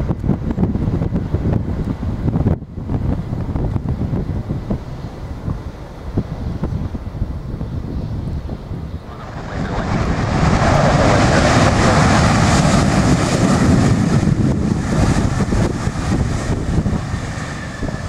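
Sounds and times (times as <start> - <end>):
jet aircraft engine noise: 0.0 - 18.0
wind buffeting microphone: 0.0 - 18.0.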